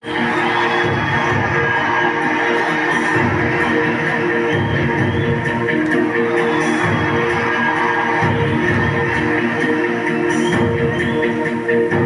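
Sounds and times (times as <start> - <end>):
music with held notes: 0.0 - 12.0.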